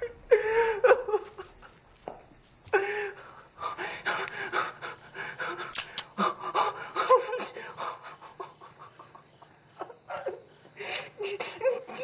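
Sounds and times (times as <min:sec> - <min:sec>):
man sobbing and panting: 0:00.0 - 0:01.8, 0:02.7 - 0:12.0.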